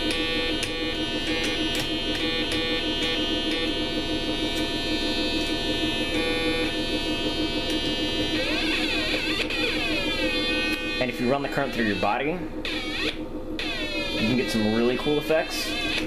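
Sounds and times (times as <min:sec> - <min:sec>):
buzzy electronic synthesizer drone: 0:00.0 - 0:16.0
sharp electrical clicks: 0:00.0 - 0:16.0.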